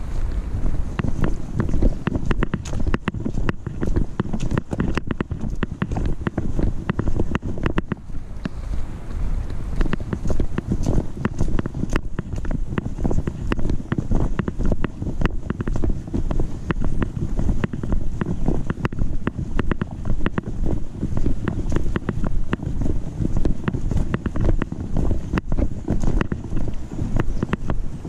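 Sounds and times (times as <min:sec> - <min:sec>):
camera jolting rumble: 0:00.0 - 0:28.0
footsteps on dirt trail: 0:00.0 - 0:28.0
sharp ticks and crunches: 0:00.0 - 0:28.0.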